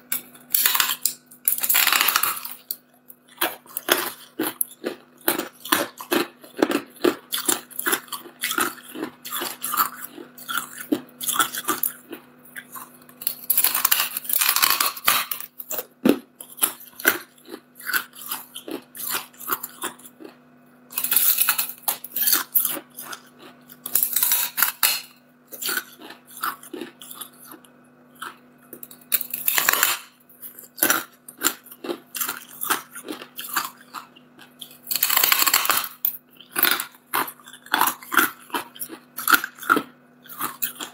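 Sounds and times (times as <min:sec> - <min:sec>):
ice crunching in mouth: 0:00.1 - 0:40.9.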